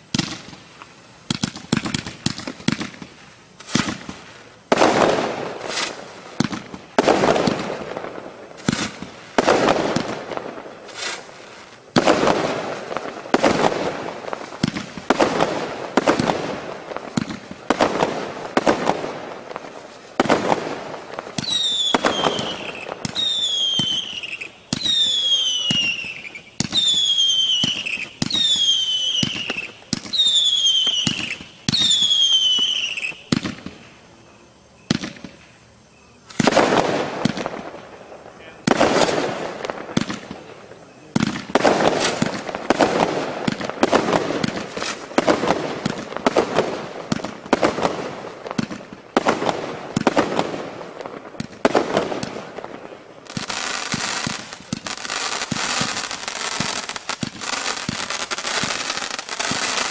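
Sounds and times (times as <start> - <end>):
fireworks bangs: 0.0 - 59.9
whistling firework shots: 0.0 - 59.9.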